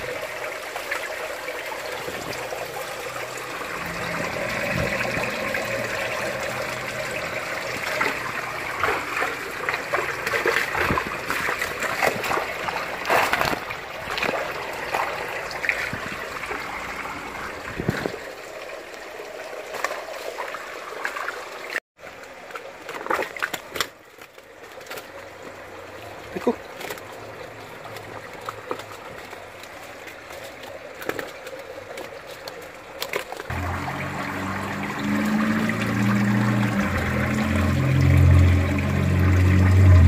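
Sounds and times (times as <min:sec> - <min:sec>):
fish splashing in tank: 0:00.0 - 0:18.8, 0:19.6 - 0:40.0
trickle of running water: 0:00.0 - 0:40.0.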